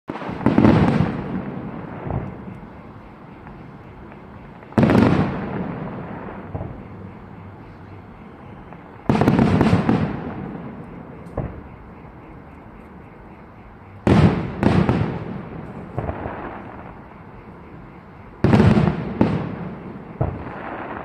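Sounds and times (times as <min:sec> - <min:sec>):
faint fireworks pops: 0:00.1 - 0:13.0, 0:14.0 - 0:17.3, 0:18.4 - 0:21.0
fireworks booming: 0:00.1 - 0:21.0.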